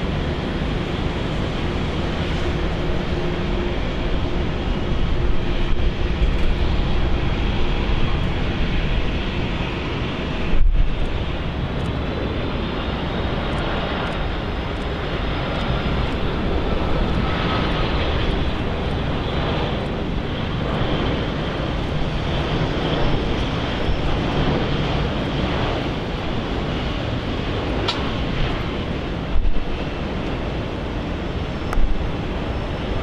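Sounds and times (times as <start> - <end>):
jet airliner engines roaring: 0.0 - 33.0.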